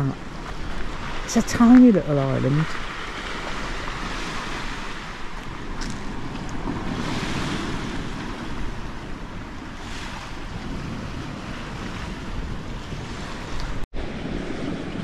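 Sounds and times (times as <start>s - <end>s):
small waves washing on beach: 0.0s - 15.0s
wind rumbling on microphone: 0.0s - 15.0s.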